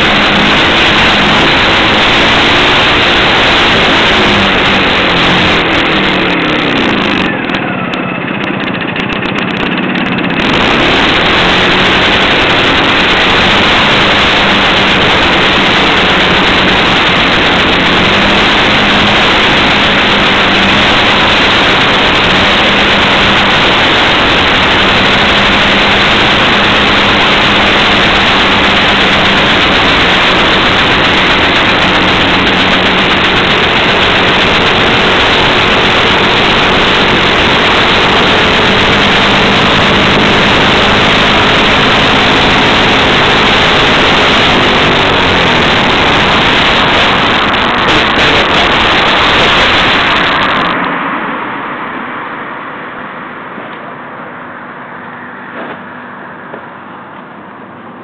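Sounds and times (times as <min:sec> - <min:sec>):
scooter engine idling: 0:00.0 - 0:58.0.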